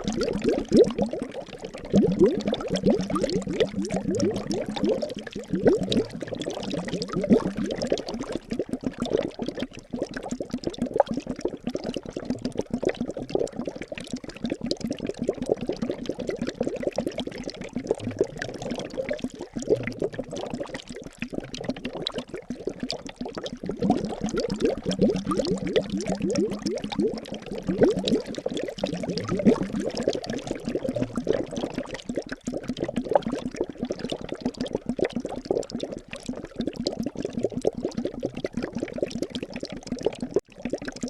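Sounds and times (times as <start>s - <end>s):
liquid bubbling and gurgling: 0.0s - 41.0s.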